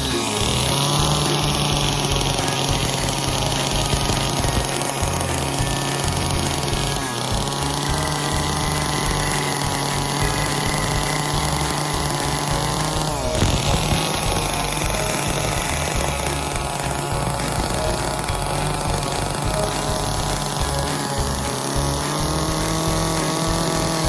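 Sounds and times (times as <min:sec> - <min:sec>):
chainsaw carving wood: 0:00.0 - 0:24.0.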